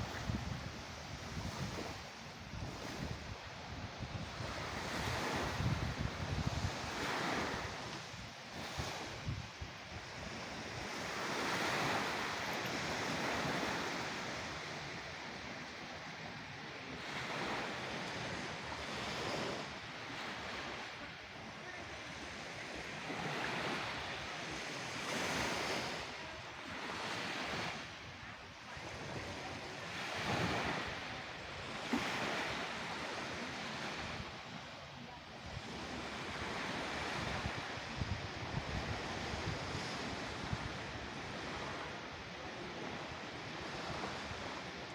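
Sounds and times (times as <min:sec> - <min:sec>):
sea waves surging: 0:00.0 - 0:44.9.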